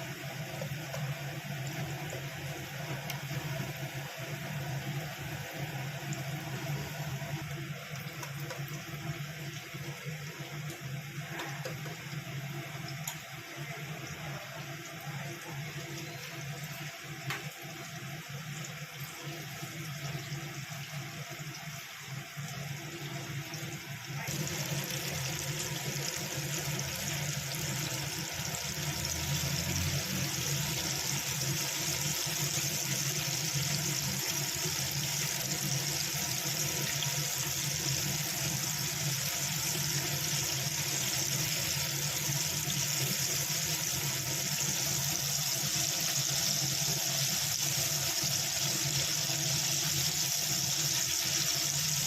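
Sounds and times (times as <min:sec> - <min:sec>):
hot oil sizzling: 0:00.0 - 0:52.0.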